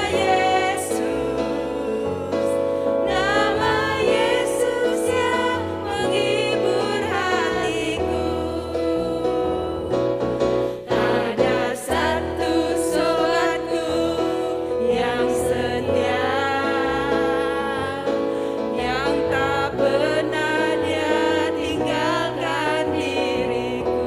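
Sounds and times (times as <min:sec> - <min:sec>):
instrumental accompaniment with bass: 0:00.0 - 0:24.0
voices singing praise song: 0:00.0 - 0:24.0.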